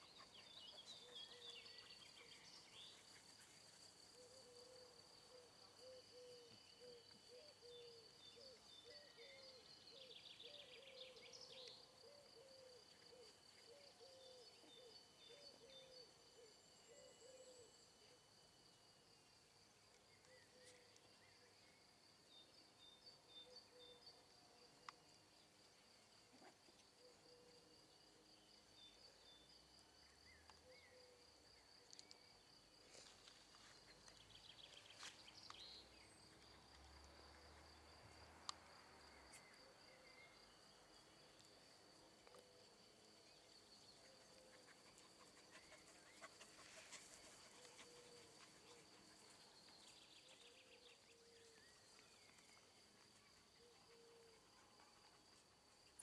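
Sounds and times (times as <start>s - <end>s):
faint chirps: 0.0s - 56.0s.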